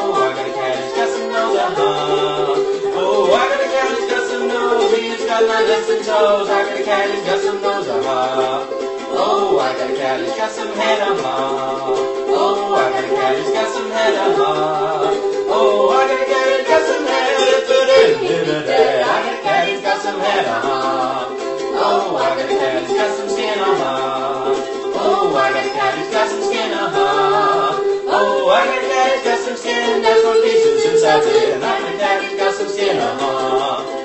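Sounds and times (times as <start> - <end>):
plucked strings: 0.0 - 34.0
voices singing a chant-like verse: 0.0 - 34.0.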